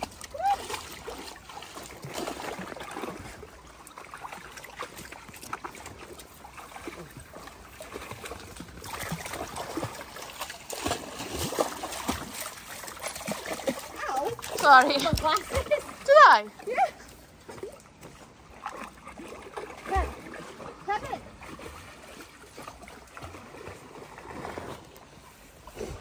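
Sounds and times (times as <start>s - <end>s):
dogs splashing in water: 0.0s - 26.0s
river water trickling over rocks: 0.0s - 26.0s.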